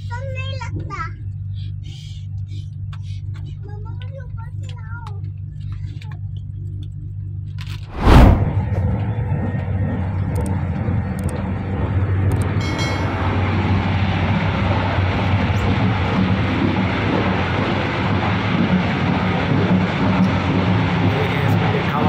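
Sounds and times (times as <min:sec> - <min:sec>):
train rumble inside carriage: 0:00.0 - 0:06.9, 0:08.5 - 0:22.0.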